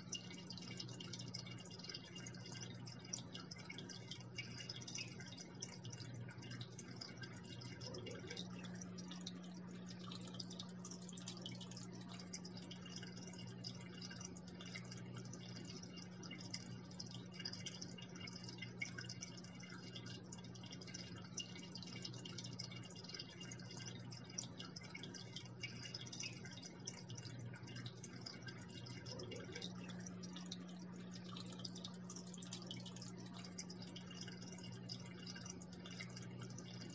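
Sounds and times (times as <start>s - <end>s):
aquarium water trickling: 0.0s - 36.9s
faint low hum: 0.0s - 36.9s.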